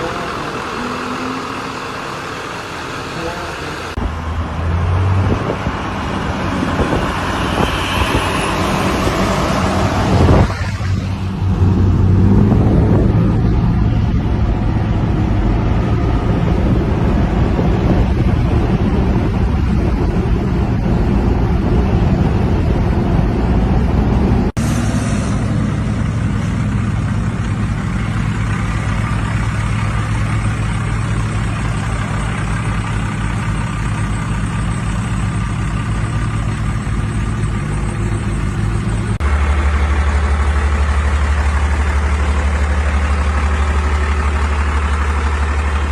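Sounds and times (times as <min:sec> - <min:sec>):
truck engines running: 0:00.0 - 0:45.9.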